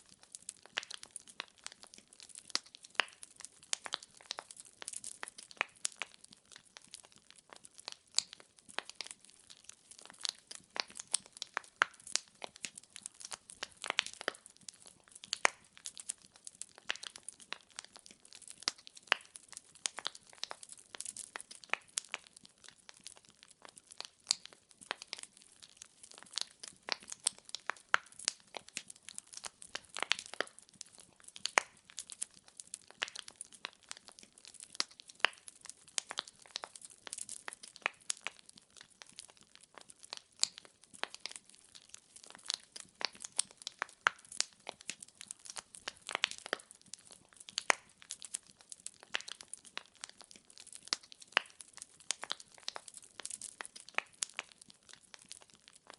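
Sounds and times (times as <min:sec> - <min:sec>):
burning logs popping and snapping: 0:00.0 - 0:55.9.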